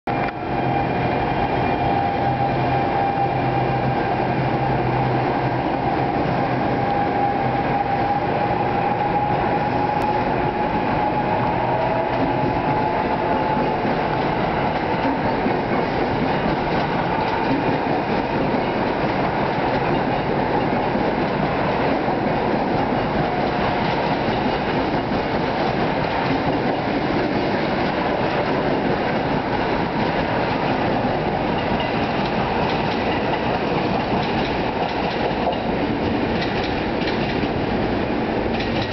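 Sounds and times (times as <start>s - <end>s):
train wheels rolling on rails: 0.1s - 38.9s.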